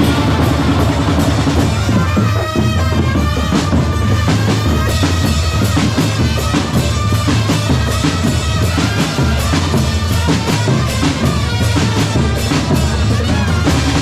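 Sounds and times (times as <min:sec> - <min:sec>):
bass drums: 0:00.0 - 0:14.0
snare drums: 0:00.0 - 0:14.0.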